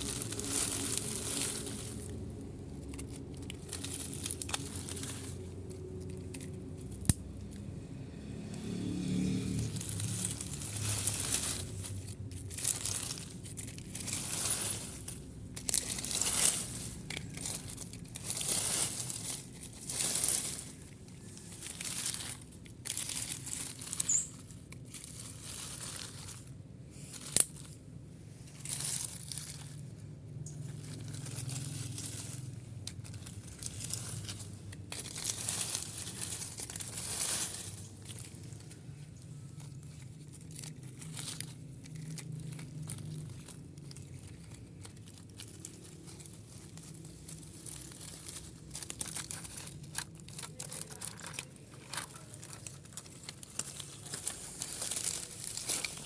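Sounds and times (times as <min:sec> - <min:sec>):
dry crunching and crinkling scrapes: 0:00.0 - 0:56.0.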